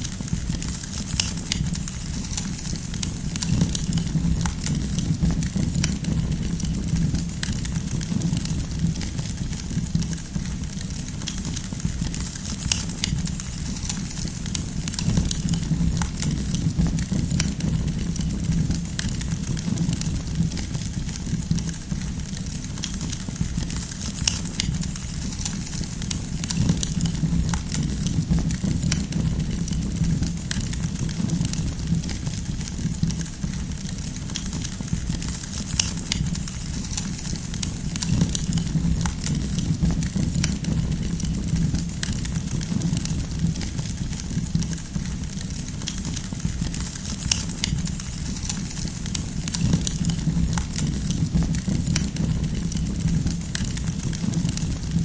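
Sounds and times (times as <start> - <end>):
campfire crackling and popping: 0.0 - 55.0
fire low rumble: 0.0 - 55.0.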